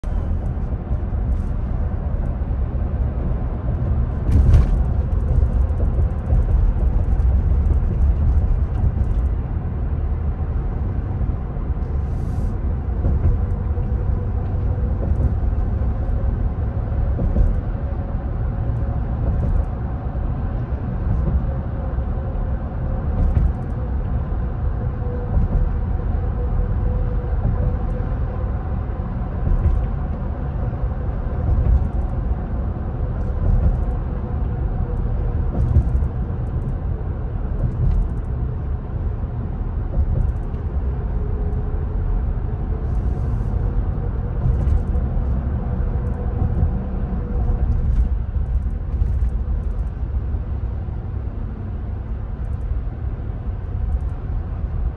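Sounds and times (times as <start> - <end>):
tyre and road noise: 0.0 - 54.9.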